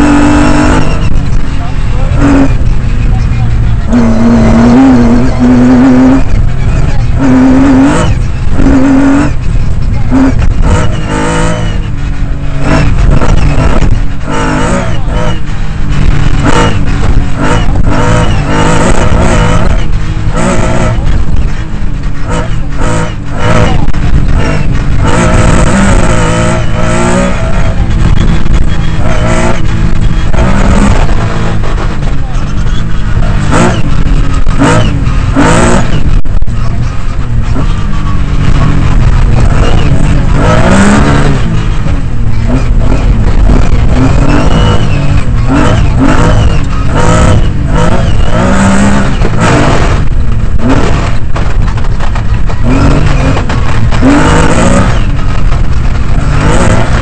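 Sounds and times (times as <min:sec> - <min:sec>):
rally car engine revving: 0:00.0 - 0:57.0
road noise on gravel: 0:00.0 - 0:57.0.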